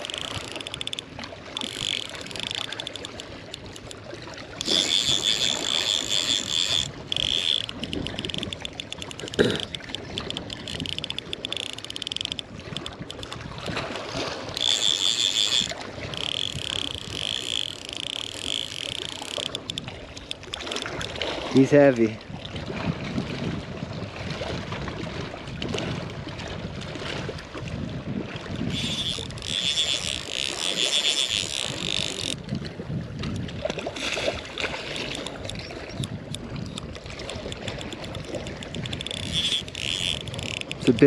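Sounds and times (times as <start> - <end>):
fishing reel drag clicking: 0.0 - 22.0, 28.4 - 32.6, 33.2 - 41.0
wind: 0.0 - 41.0.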